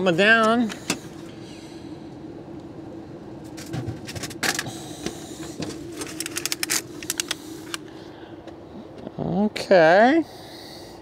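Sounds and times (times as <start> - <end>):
vending machine humming: 0.0 - 11.0.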